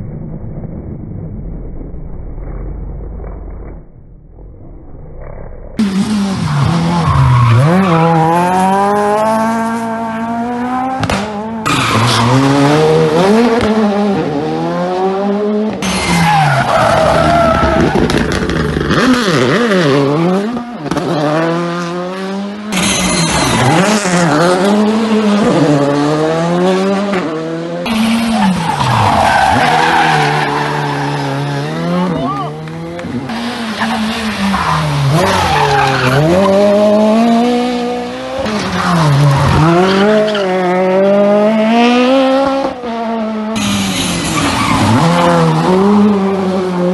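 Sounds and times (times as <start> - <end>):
rally car engines revving: 5.8 - 46.9.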